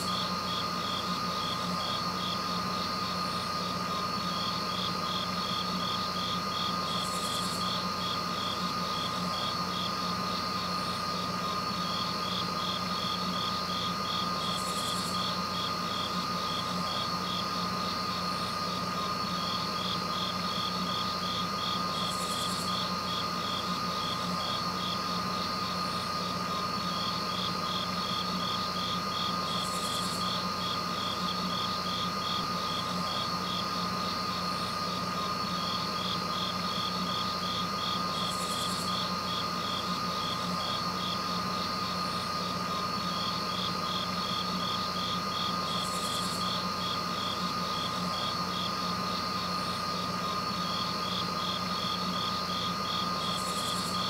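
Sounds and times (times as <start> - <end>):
crickets chirping: 0.0 - 54.0
steady hum with high tone: 0.0 - 54.0.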